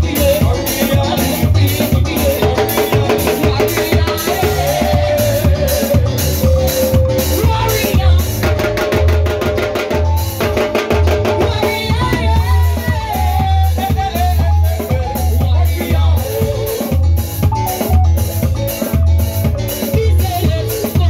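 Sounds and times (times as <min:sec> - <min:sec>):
lead melody: 0:00.0 - 0:08.7, 0:11.9 - 0:21.0
heavy bass line: 0:00.0 - 0:09.4, 0:10.0 - 0:21.0
drum kit with ticking cymbal: 0:00.0 - 0:21.0.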